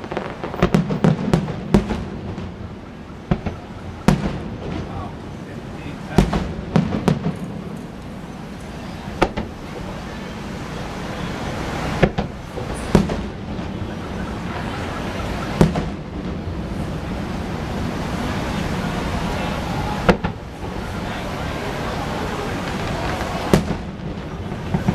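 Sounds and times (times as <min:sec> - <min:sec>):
fireworks bangs: 0:00.0 - 0:24.9.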